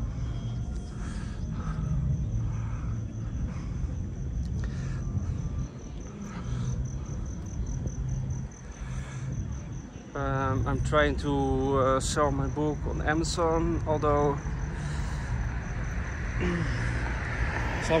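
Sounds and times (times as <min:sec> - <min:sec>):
low street rumble: 0:00.0 - 0:18.0.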